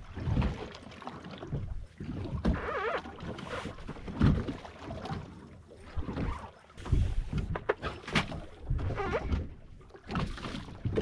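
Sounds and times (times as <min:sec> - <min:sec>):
water slapping against boat hull: 0:00.0 - 0:11.0.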